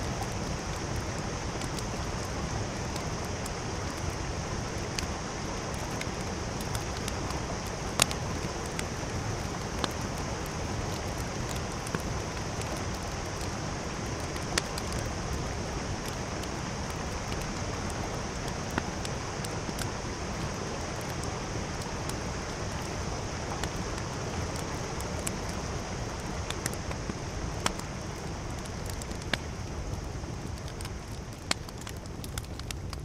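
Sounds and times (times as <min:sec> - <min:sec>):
mountain stream rushing: 0:00.0 - 0:32.9
campfire crackling: 0:00.0 - 0:33.0.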